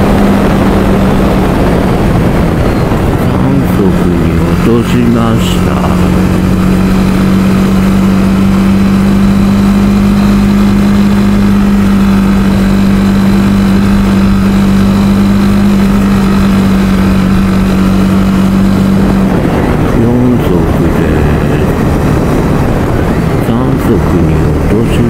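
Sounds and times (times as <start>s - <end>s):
vehicle engine pulling uphill: 0.0s - 25.0s.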